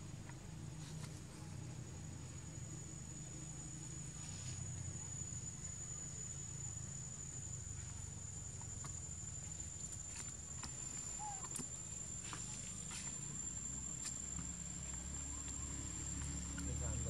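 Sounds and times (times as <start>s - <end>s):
low outdoor rumble: 0.0s - 17.0s
high-pitched insect drone: 2.0s - 17.0s.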